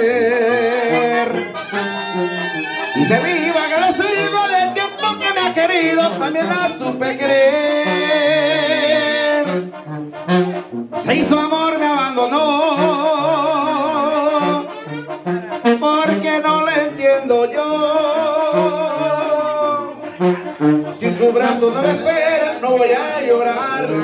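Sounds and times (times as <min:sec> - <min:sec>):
brass and clarinets melody: 0:00.0 - 0:24.0
pulsing bass line: 0:00.0 - 0:24.0.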